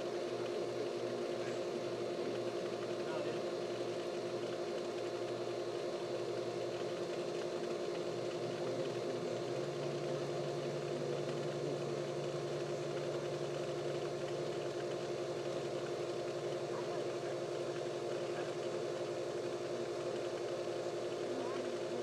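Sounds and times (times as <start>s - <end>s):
lower hum: 0.0s - 22.0s
steady mechanical hum: 0.0s - 22.0s.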